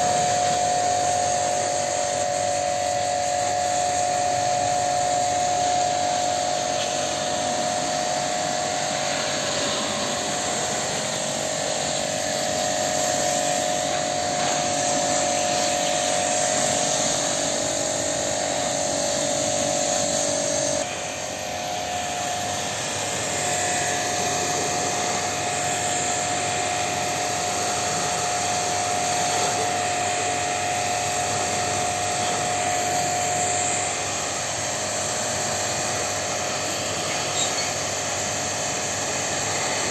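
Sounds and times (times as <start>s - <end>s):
pressure washer motor whine: 0.0s - 39.9s
water jet hissing: 0.0s - 39.9s.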